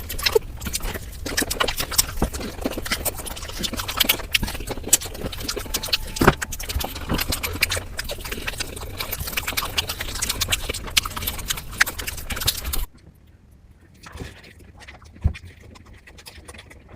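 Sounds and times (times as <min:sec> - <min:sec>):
crunching and chewing crispy food: 0:00.0 - 0:16.9.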